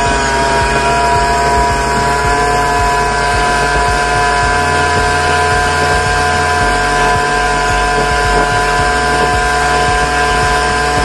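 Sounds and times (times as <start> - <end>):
boat wake rushing: 0.0 - 11.0
motorboat engine whine: 0.0 - 11.0.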